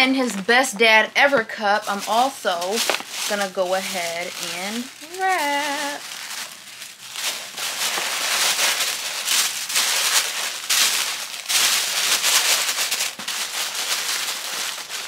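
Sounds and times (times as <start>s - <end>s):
tissue paper crinkling: 0.0s - 15.0s.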